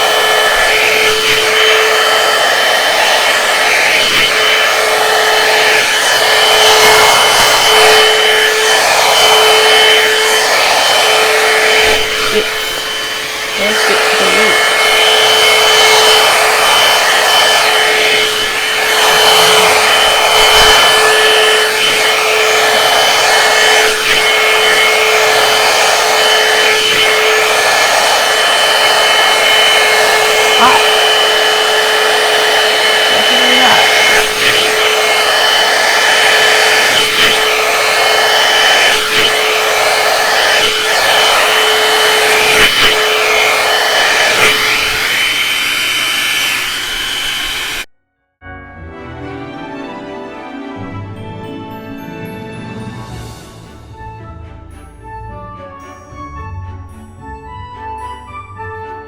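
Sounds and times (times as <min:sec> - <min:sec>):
blow-dryer rushing air and whine: 0:00.0 - 0:47.9.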